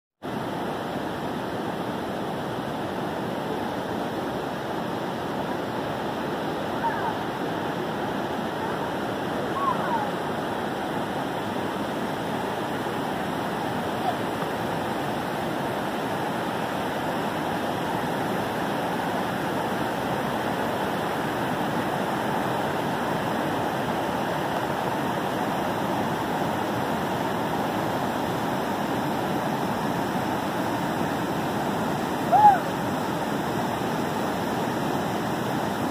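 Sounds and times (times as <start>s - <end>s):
whitewater rushing over rocks: 0.3s - 35.9s.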